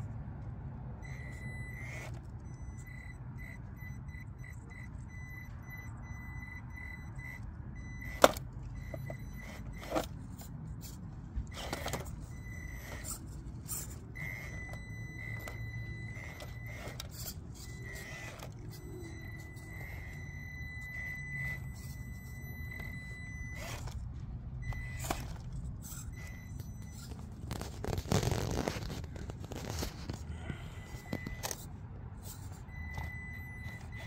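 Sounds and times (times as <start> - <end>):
toy motor and gears whining: 1.0 - 34.0.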